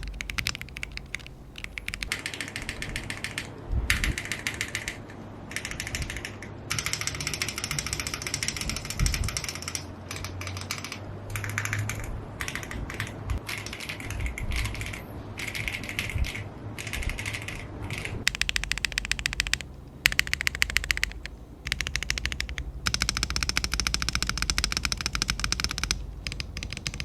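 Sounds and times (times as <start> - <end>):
mechanical keyboard typing: 0.0 - 27.0.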